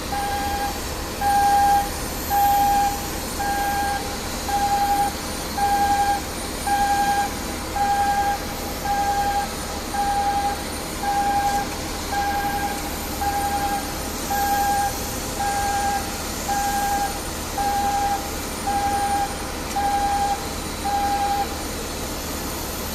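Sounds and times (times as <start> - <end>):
steady low hum: 0.0 - 22.9
warning beeper beeping: 0.1 - 21.6.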